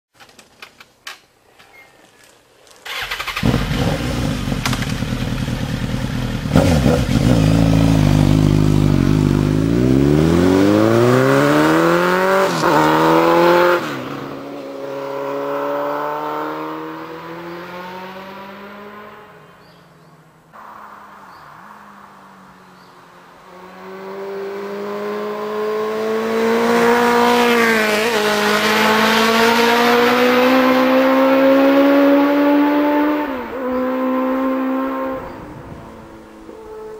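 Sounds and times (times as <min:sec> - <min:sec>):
motorcycle engine idling and revving: 0:02.8 - 0:20.2, 0:22.4 - 0:36.9.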